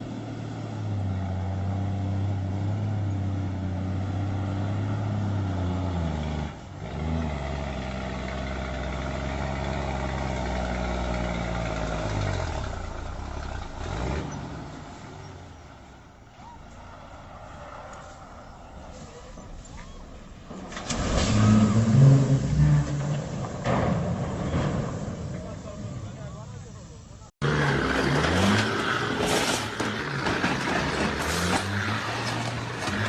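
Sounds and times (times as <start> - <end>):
heavy truck engine under load: 0.0 - 33.0.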